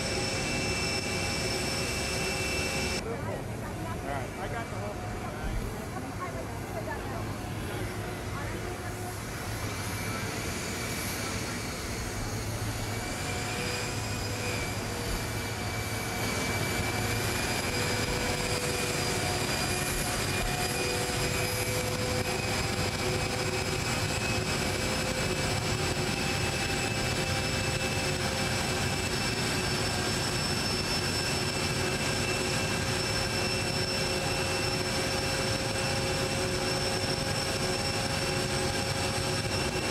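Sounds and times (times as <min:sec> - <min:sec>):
high engine whine: 0:00.0 - 0:39.9
jet engines roaring: 0:00.0 - 0:39.9.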